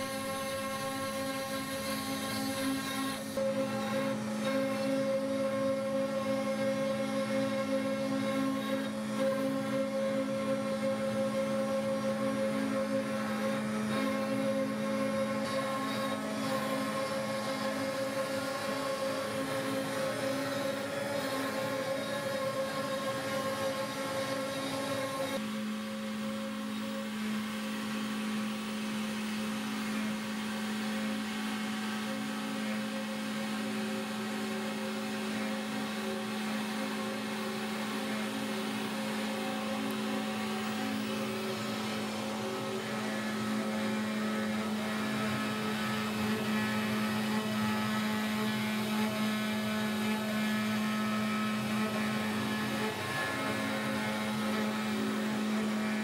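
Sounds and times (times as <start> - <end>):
cnc router milling wood: 0.0 - 56.0.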